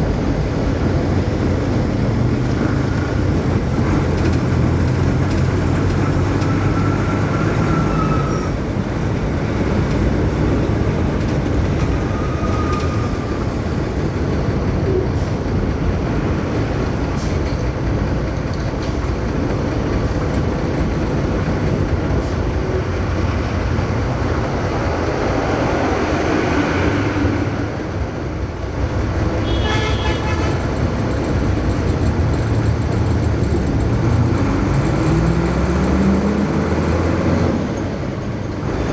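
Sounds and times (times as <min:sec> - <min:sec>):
bus engine droning: 0:00.0 - 0:38.9
road and traffic noise: 0:00.0 - 0:38.9.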